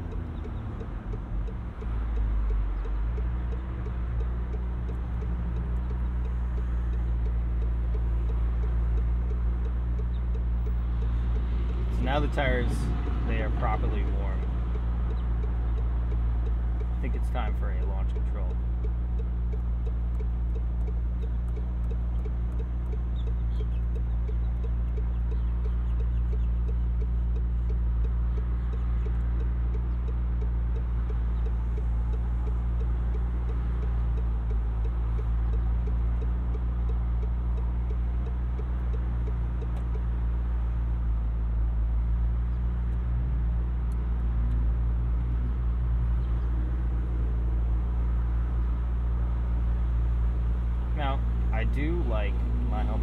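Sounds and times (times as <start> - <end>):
car engine steady drone: 0.0 - 53.0.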